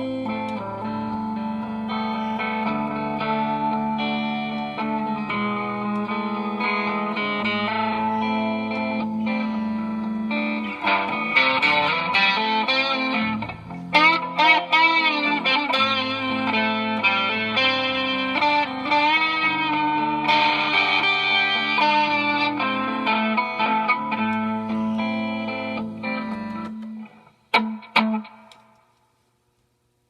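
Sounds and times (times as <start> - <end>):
electric guitar notes and chords: 0.0 - 29.0.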